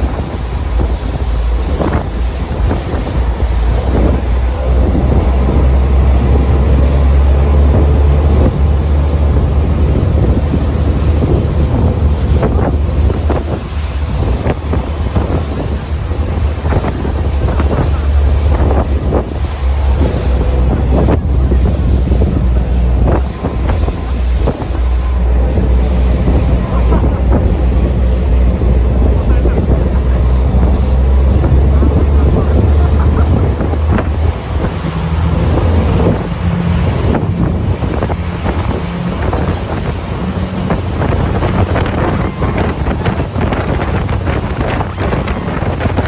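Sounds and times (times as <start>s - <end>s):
motorboat engine drone: 0.0s - 46.0s
water splashing against hull: 0.0s - 46.0s
wind buffeting microphone: 0.0s - 46.0s.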